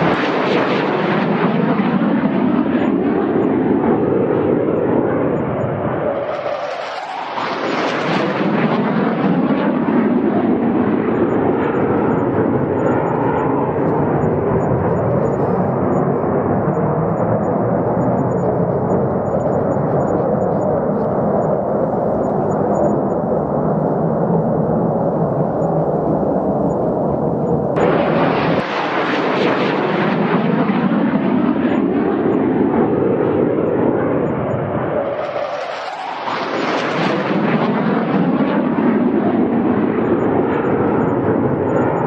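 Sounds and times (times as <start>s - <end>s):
fighter jet engine roar: 0.0s - 42.0s.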